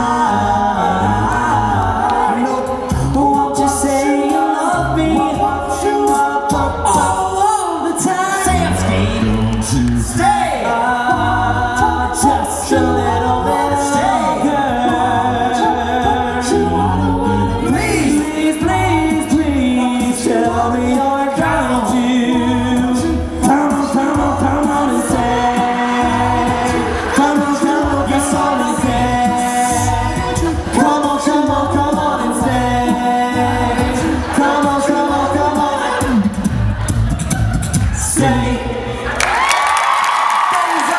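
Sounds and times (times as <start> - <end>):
men singing in close harmony: 0.0 - 39.0
vocal bass line: 0.0 - 39.2
vocal percussion beat: 0.0 - 40.9.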